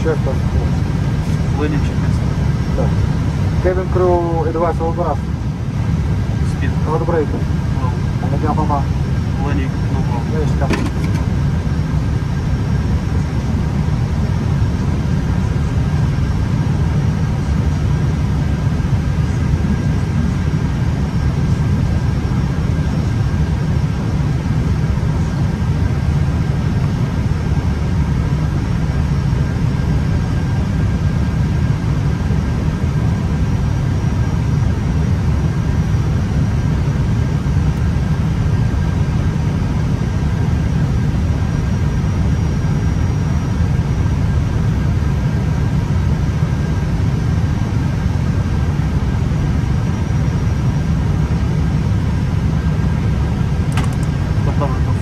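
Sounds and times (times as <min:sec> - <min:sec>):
airflow and engine rumble: 0:00.0 - 0:55.0
faint steady whines: 0:00.0 - 0:55.0.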